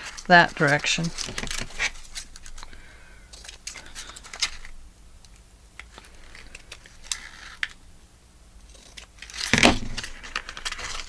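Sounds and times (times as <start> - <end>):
paper rustling: 0.0 - 4.8, 5.8 - 7.8, 8.7 - 11.0.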